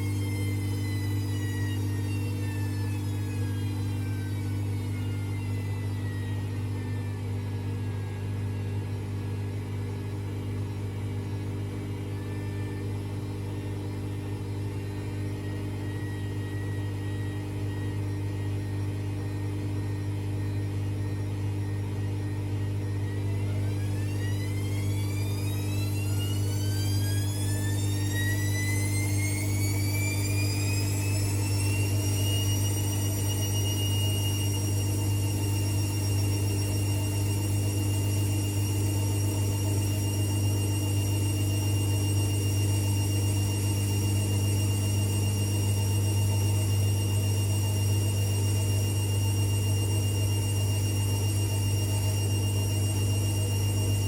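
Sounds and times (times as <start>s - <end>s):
drum motor whine: 0.0s - 54.0s
washing machine hum: 0.0s - 54.0s.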